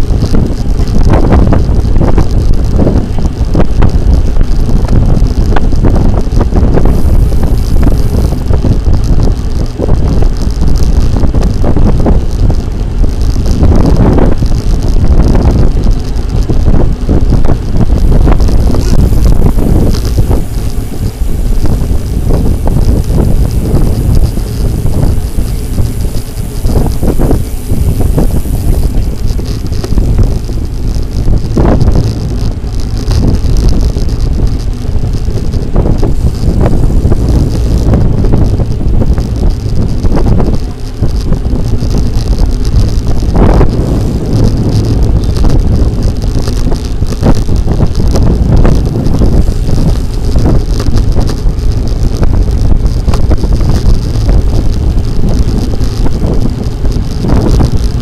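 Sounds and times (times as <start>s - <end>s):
bicycle road rumble: 0.0s - 58.0s
wind buffeting microphone: 0.0s - 58.0s.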